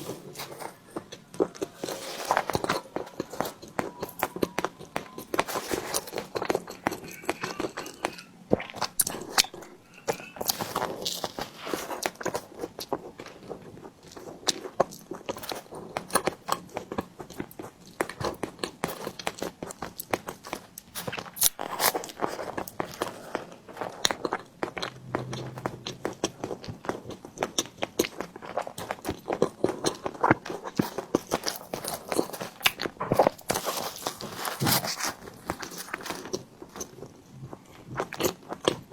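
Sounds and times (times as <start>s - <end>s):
biting and chewing: 0.0s - 38.9s.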